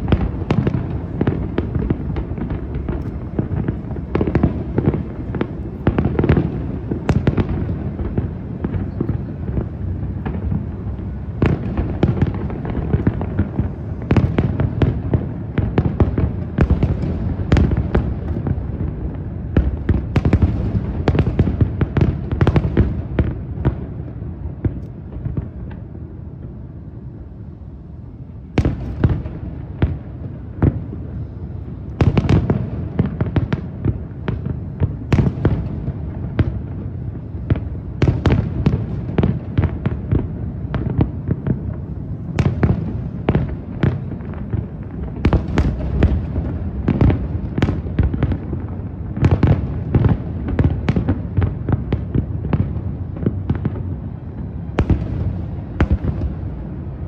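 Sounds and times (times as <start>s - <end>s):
fireworks exploding: 0.0s - 27.1s, 28.1s - 57.0s.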